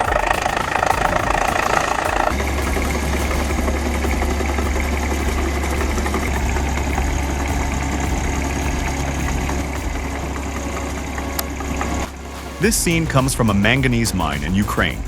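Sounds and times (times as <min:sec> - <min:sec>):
diesel engine running: 0:00.0 - 0:14.5.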